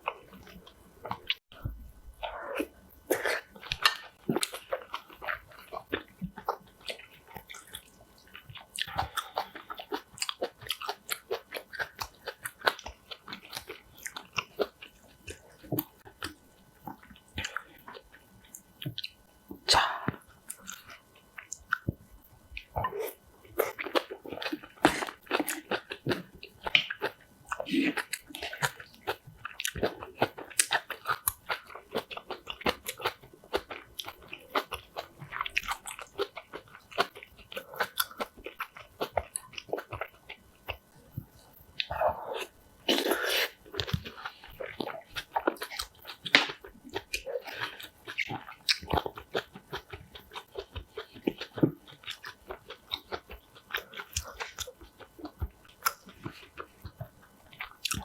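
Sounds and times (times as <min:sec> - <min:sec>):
crunchy chewing: 0:02.2 - 0:58.0.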